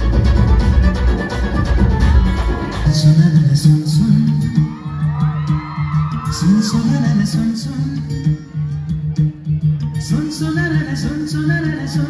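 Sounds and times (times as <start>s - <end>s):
loud dance music: 0.0s - 12.0s
person singing: 2.2s - 12.0s.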